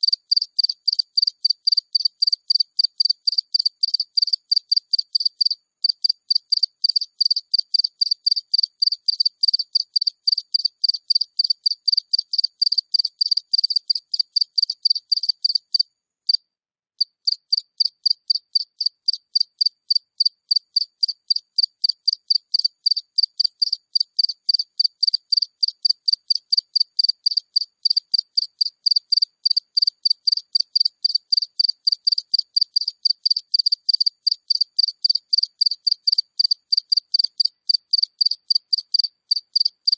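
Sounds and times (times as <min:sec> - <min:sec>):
cricket chirping: 0:00.0 - 0:16.4, 0:17.0 - 0:39.9.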